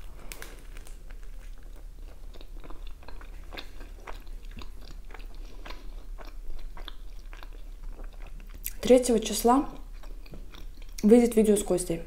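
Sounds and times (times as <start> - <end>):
person chewing food: 0.0 - 11.1.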